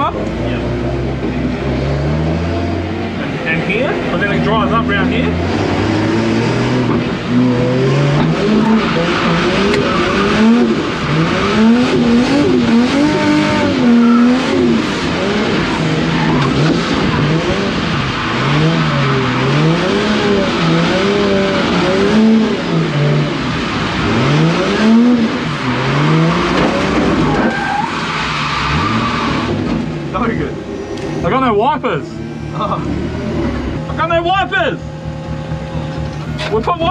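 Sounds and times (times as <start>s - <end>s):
car engine revving hard: 0.0s - 36.9s.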